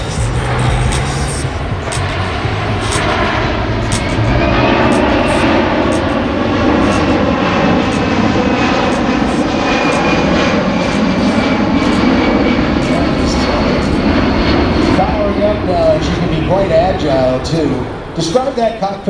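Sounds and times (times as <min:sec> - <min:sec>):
airplane engine running: 0:00.0 - 0:19.0.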